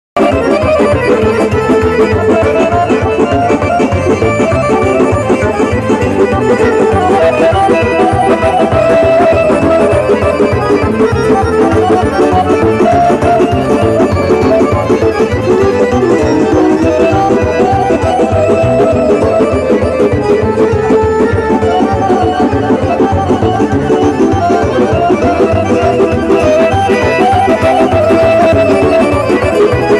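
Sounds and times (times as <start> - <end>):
live band music through pa: 0.2 - 29.9.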